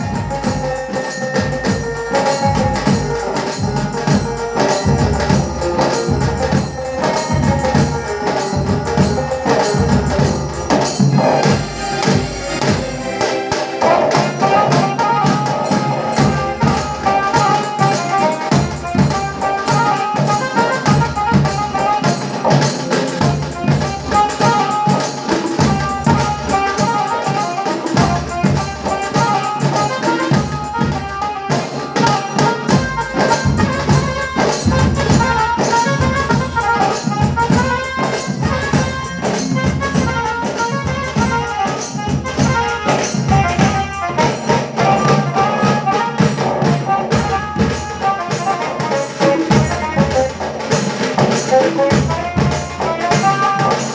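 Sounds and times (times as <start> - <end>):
brass band with fast percussion: 0.0 - 53.9.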